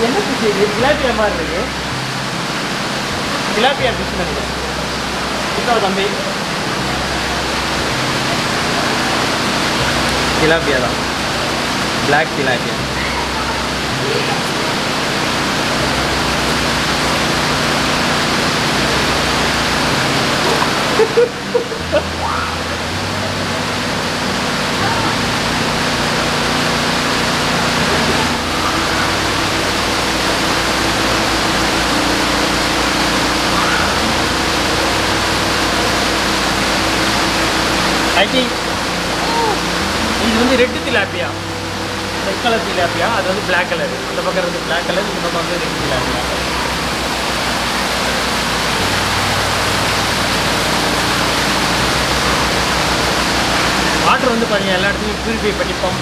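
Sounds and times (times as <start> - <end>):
low hum of pump motors: 0.0 - 56.0
rushing water in tanks: 0.0 - 56.0.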